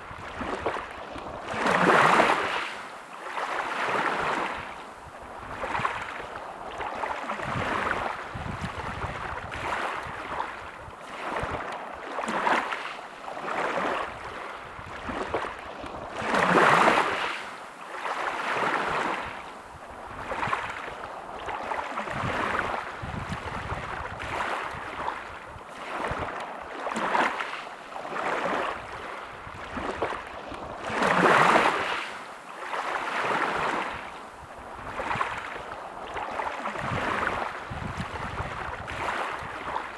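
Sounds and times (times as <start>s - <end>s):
small sea waves washing: 0.0s - 39.9s.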